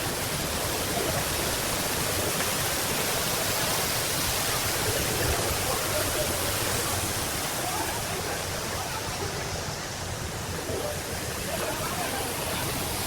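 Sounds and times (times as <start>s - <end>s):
hiss of rushing water: 0.0s - 13.0s.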